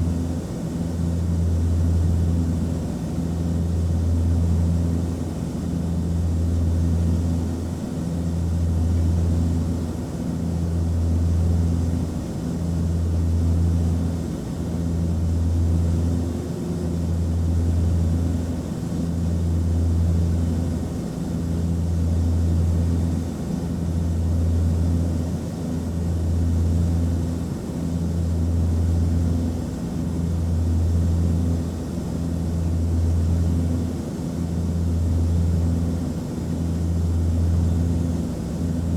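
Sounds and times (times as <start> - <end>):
propeller drone: 0.0 - 38.9.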